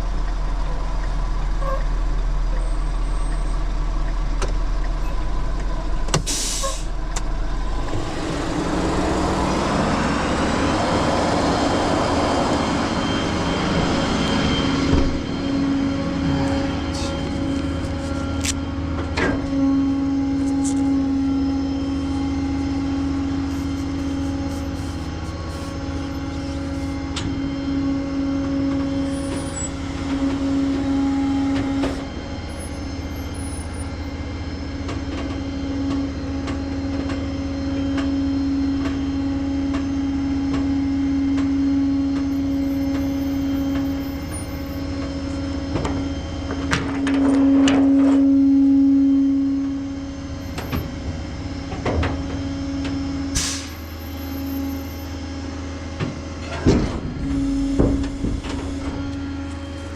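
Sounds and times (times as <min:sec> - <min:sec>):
truck engine hum: 0:00.0 - 0:59.9
hydraulic whine: 0:04.9 - 0:59.9.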